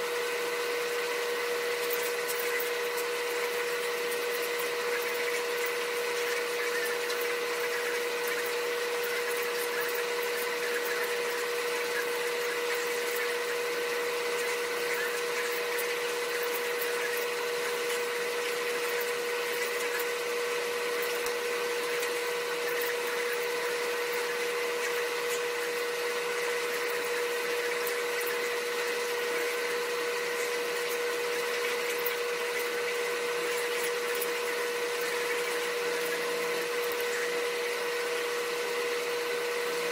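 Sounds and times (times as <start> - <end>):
machine whirring and whining: 0.0 - 39.9.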